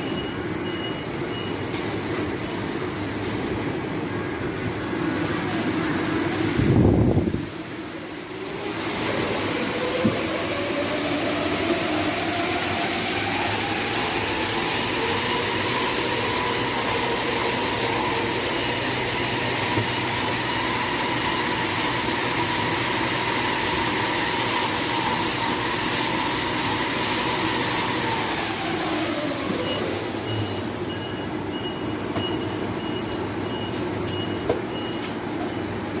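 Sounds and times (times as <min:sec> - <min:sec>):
air conditioner blower fan: 0:00.0 - 0:36.0.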